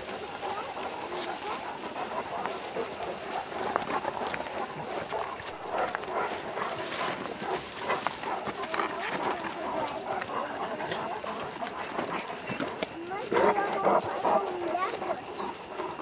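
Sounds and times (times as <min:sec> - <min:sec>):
rustling through undergrowth: 0:00.0 - 0:16.0.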